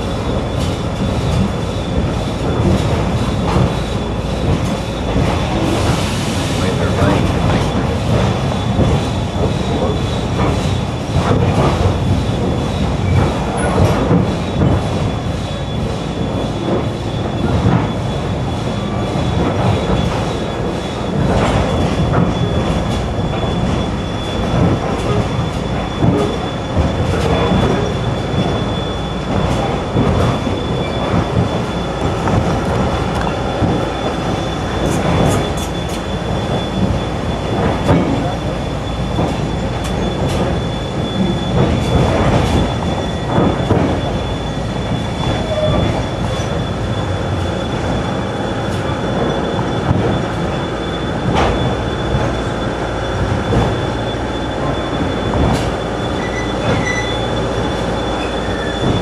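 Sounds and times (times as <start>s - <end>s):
train rumbling and rattling: 0.0s - 59.0s.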